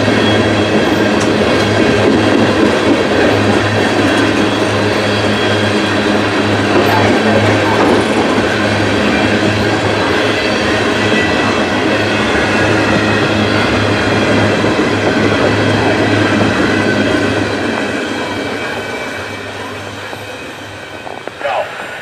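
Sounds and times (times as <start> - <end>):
train wheels rolling on rails: 0.0 - 22.0
high wheel squeals: 3.4 - 22.0.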